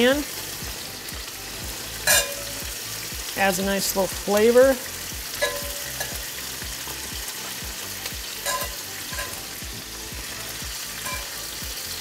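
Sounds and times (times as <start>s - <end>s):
frying hiss in a pan: 0.0s - 12.0s.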